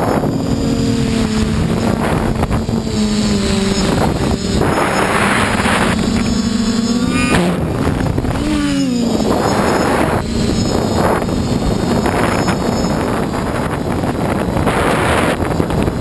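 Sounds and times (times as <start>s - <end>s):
drone motors whining: 0.0s - 16.0s
wind rushing over microphone: 0.0s - 16.0s.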